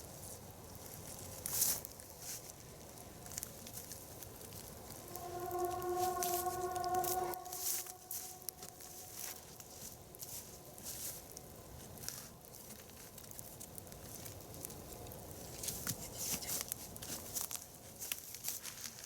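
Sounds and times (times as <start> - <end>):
dry wood and leaves rustling: 0.0 - 5.0, 8.2 - 19.0.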